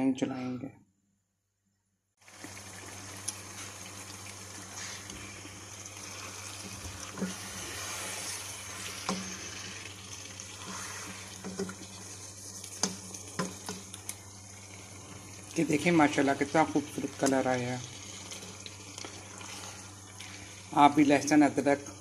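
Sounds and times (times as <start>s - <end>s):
curry simmering in a pan: 2.2s - 22.0s.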